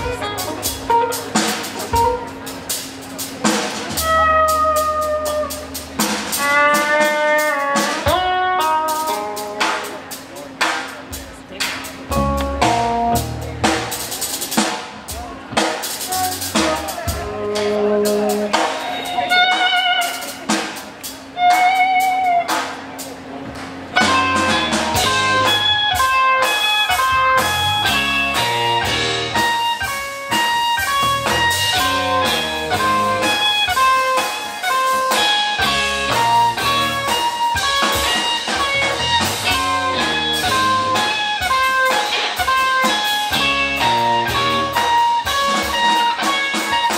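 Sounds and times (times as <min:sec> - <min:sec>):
bass guitar: 0:00.0 - 0:46.9
drums: 0:00.0 - 0:46.9
electric guitars: 0:00.0 - 0:46.9.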